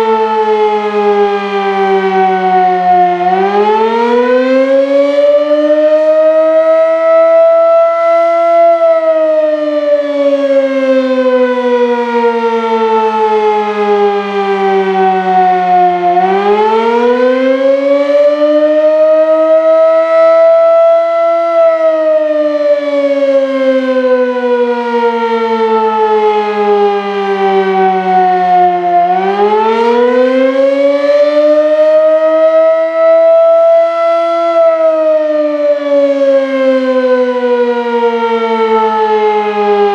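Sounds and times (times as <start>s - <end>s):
fire siren rising and falling: 0.0s - 39.9s.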